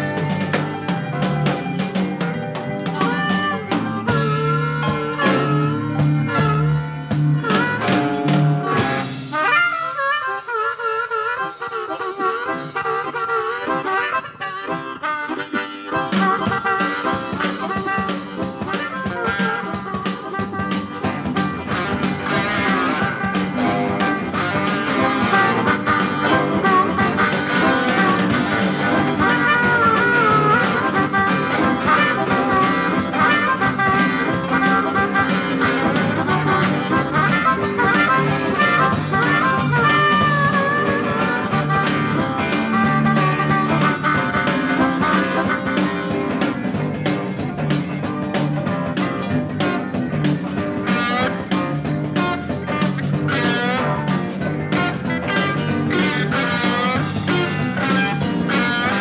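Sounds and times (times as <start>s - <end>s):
bass: 0.0s - 59.0s
drums keeping steady beat: 0.0s - 59.0s
electric guitar: 0.0s - 59.0s
harmonica lead with bent notes: 0.0s - 59.0s.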